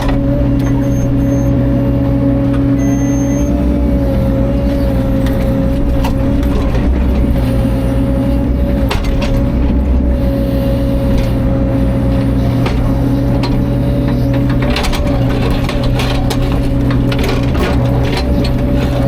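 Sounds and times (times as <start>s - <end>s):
constant high hum: 0.0s - 19.0s
diesel excavator engine running: 0.0s - 19.0s.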